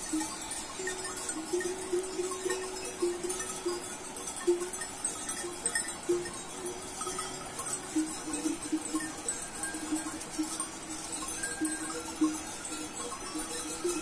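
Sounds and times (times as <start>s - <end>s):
animal bells clinking: 0.0s - 14.0s.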